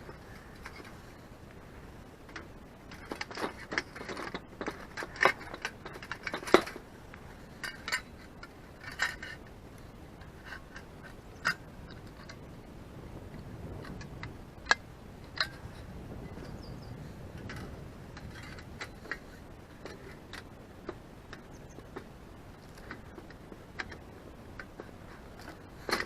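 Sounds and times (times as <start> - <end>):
metal camping gear clinking: 2.3 - 12.6, 13.6 - 26.0.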